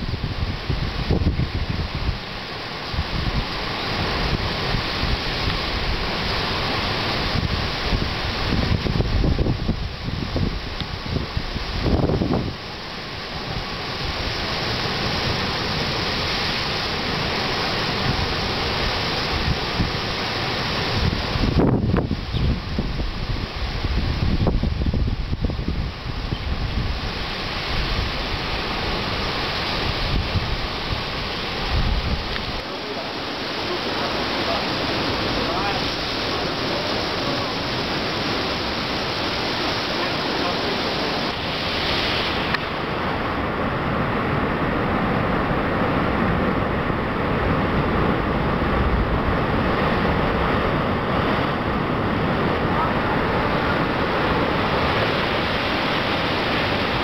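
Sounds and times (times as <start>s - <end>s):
ocean surf surging into rocks: 0.0s - 57.0s
wind buffeting microphone: 0.0s - 57.0s.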